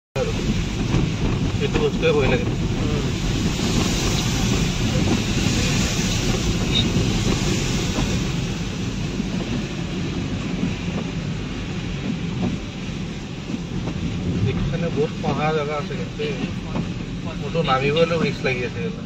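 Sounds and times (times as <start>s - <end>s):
car interior rumble: 0.2s - 19.0s.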